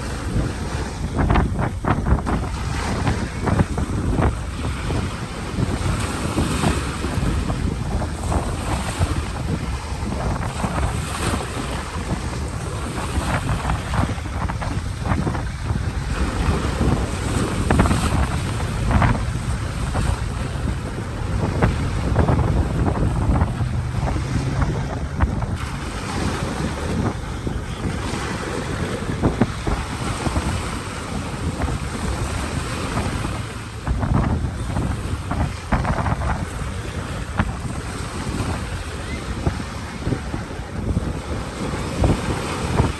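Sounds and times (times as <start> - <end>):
ocean waves breaking: 0.0 - 42.9
wind buffeting microphone: 0.0 - 42.9.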